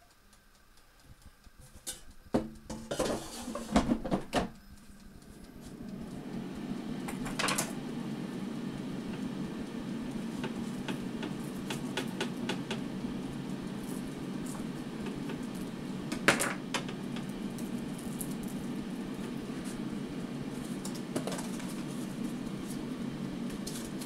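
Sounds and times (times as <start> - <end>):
air fryer fan humming: 0.0 - 24.0.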